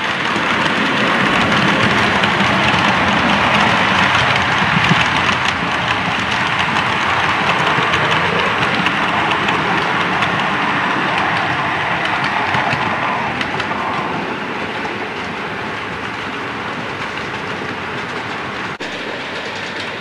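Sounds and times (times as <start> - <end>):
train wheels clickety-clack: 0.0 - 20.0.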